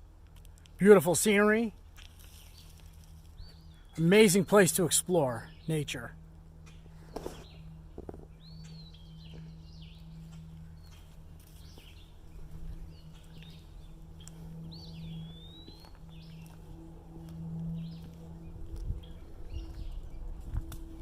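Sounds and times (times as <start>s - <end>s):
steady low hum: 0.0s - 21.0s
bird chirps: 1.9s - 21.0s.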